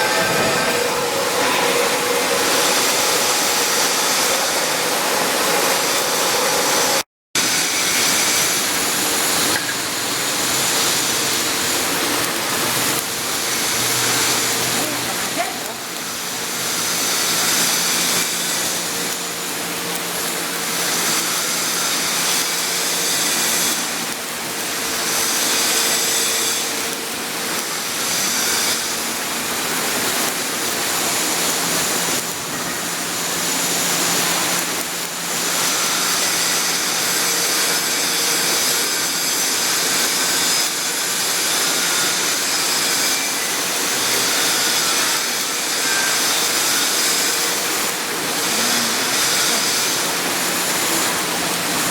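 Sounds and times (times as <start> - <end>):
arc welding hiss: 0.0 - 51.9.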